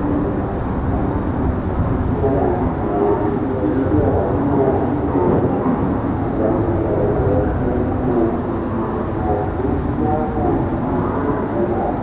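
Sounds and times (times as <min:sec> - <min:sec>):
murmur of voices: 0:02.1 - 0:12.0.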